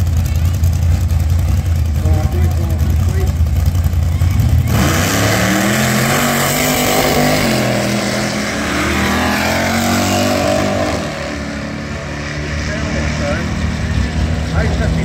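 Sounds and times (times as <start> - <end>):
deep engine rumble: 0.0 - 15.0
race car accelerating and shifting gears: 0.0 - 15.0.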